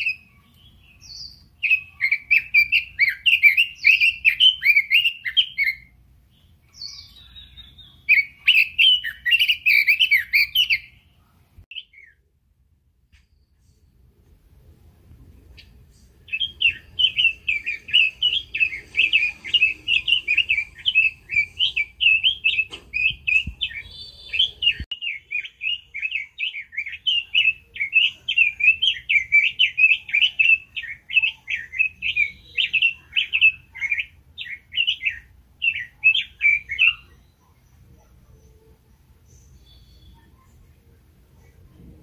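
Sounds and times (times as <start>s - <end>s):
bird singing warbling song: 0.0s - 12.3s, 15.4s - 42.0s.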